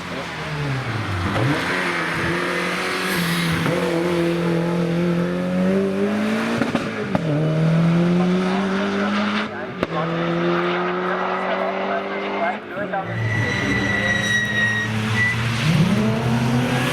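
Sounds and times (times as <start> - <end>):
rally car engine pulling hard: 0.0 - 16.9.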